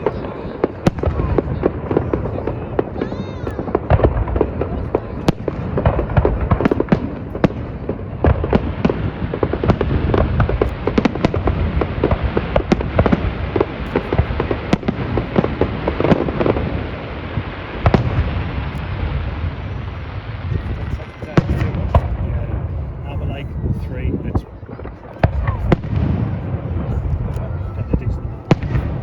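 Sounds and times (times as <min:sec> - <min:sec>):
fireworks bangs and crackling: 0:00.0 - 0:29.0.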